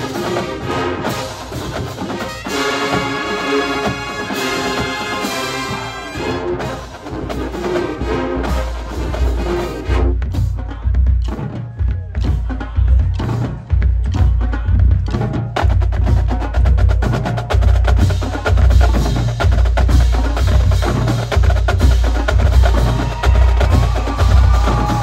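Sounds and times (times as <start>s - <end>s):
marching drumline playing: 0.0s - 25.0s.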